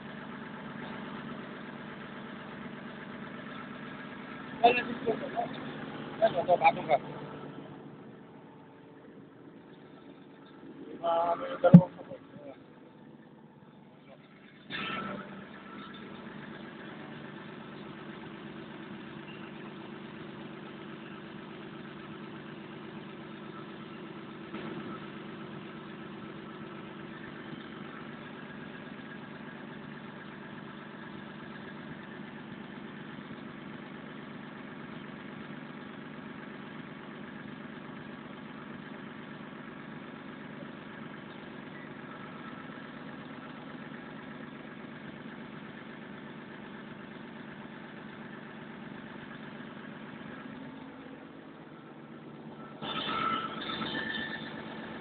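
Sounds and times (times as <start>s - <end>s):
excavator diesel engine idling: 0.0s - 55.0s.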